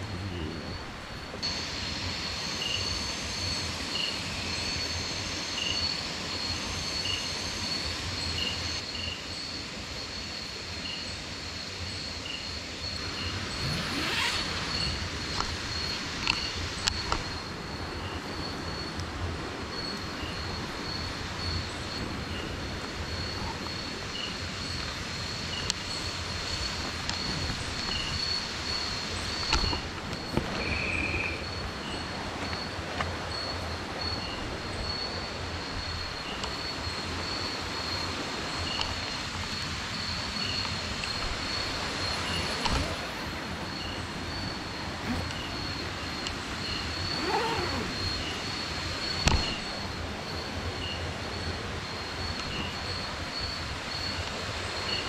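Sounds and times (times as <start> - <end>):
insect trill: 0.0 - 55.0.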